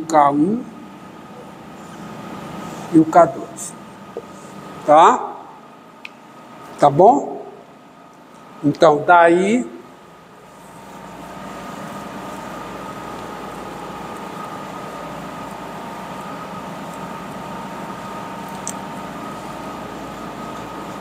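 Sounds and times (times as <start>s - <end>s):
background hum and hiss: 0.0s - 21.0s.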